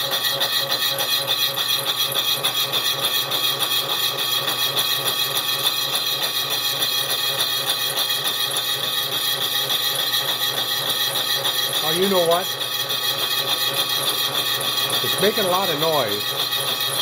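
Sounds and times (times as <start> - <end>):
milling cutter grinding brass: 0.0 - 17.0.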